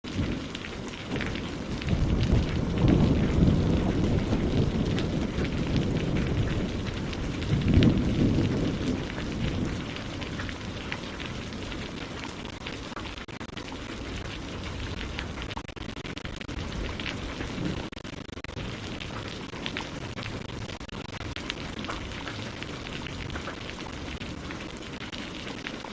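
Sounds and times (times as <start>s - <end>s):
steady rain: 0.0s - 25.9s.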